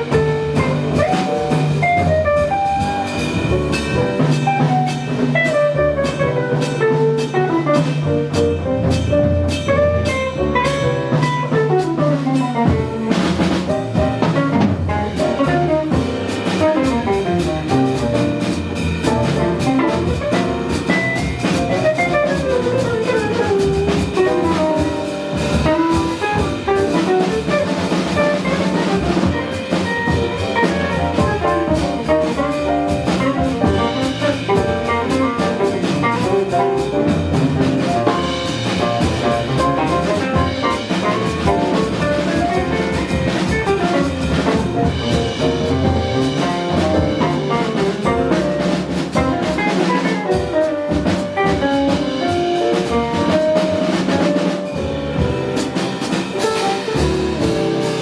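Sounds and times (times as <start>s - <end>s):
jazz band playing: 0.0s - 58.0s.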